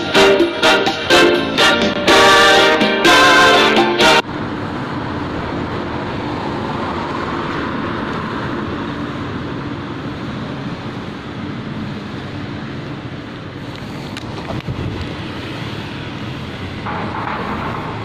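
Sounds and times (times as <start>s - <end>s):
cars driving by: 0.0s - 18.0s.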